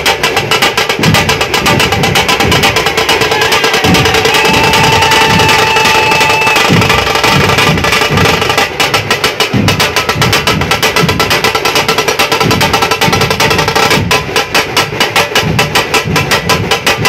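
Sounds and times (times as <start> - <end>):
deep drum beats: 0.0 - 17.0
fast drum strokes: 0.0 - 17.0.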